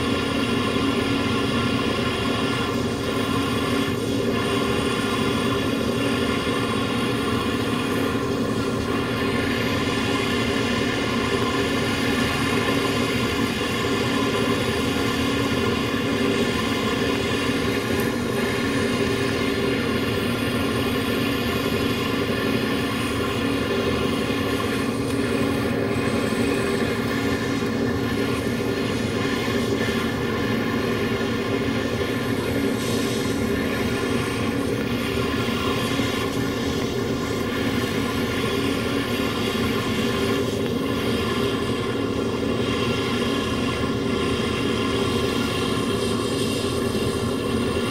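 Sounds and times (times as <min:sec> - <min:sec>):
butane torch flame rushing: 0:00.0 - 0:47.9.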